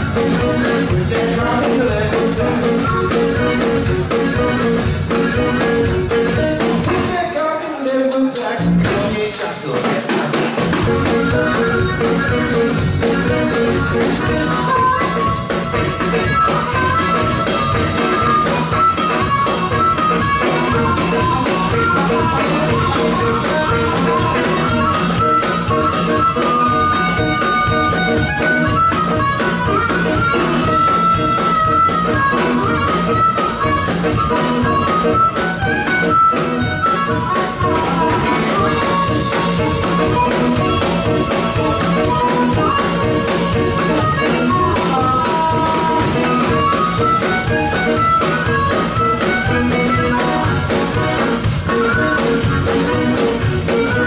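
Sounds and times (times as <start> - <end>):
steady drum beat: 0.0 - 7.6, 8.4 - 54.0
amplified harmonica: 0.0 - 8.8, 10.8 - 54.0
electric guitars: 0.0 - 54.0.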